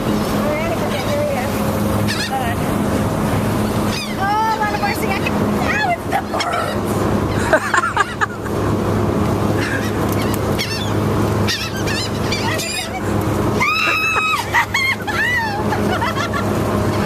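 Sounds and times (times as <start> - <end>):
ferry engine drone: 0.0 - 17.0
gulls calling: 0.0 - 17.0.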